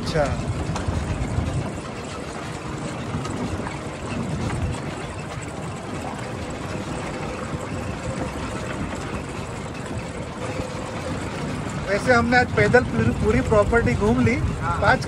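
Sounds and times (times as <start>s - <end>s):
golf cart driving: 0.0s - 15.0s.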